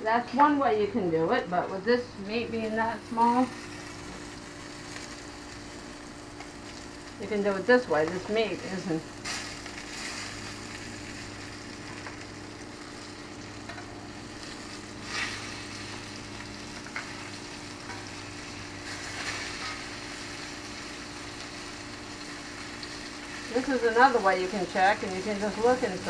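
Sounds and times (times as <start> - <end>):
meat sizzling in oil: 3.2 - 26.0.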